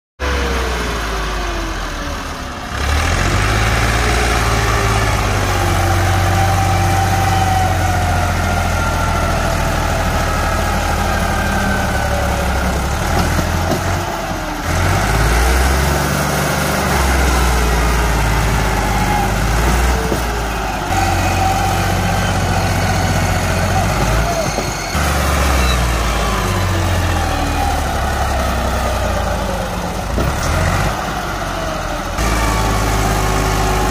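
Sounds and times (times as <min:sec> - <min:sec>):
diesel tractor engine labouring: 0:00.2 - 0:33.9.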